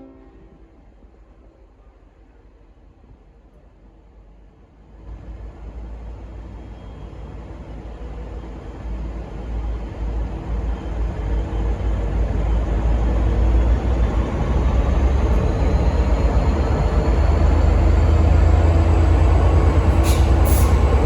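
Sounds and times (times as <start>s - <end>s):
diesel locomotive engine rumbling: 0.0s - 21.0s.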